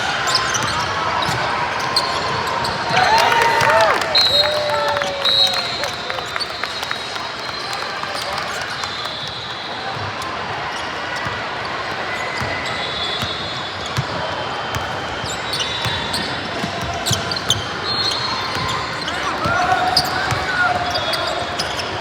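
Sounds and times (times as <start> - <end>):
murmur of spectators: 0.0 - 22.0
sneakers squeaking: 0.0 - 22.0.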